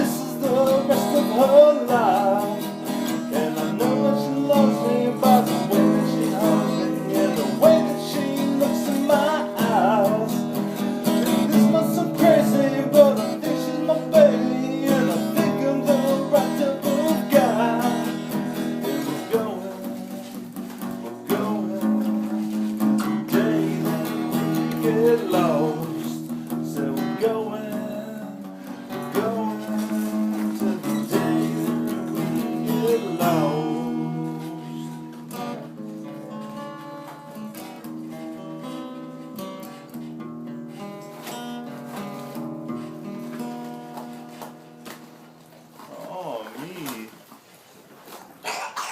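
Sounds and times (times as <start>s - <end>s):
acoustic guitar: 0.0s - 48.9s.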